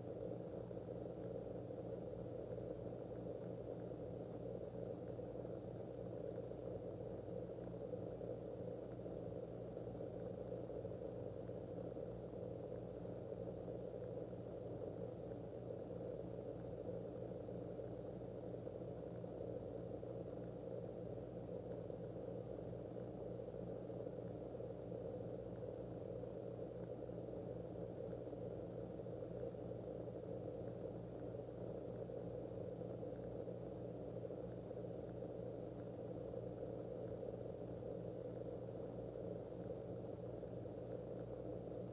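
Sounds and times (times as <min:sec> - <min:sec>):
low hum with faint hiss: 0:00.0 - 0:41.9.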